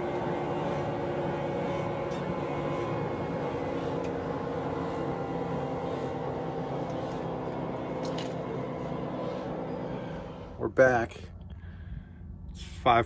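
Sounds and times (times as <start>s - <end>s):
helicopter engine running: 0.0s - 12.6s.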